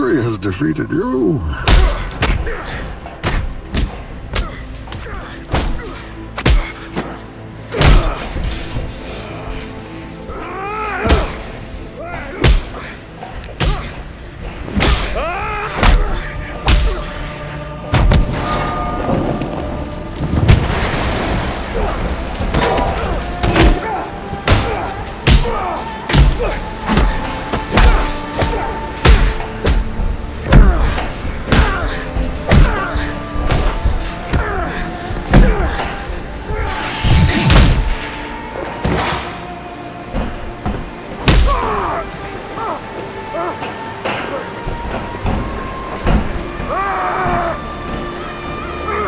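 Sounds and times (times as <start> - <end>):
background music: 0.0 - 49.0.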